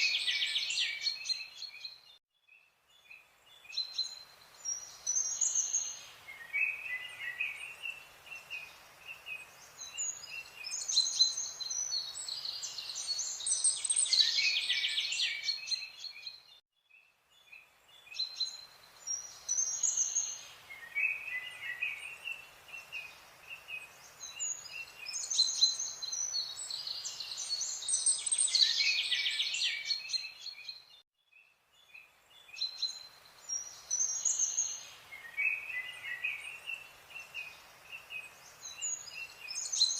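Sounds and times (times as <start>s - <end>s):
birds chirping and trilling: 0.0s - 16.6s, 17.3s - 39.9s.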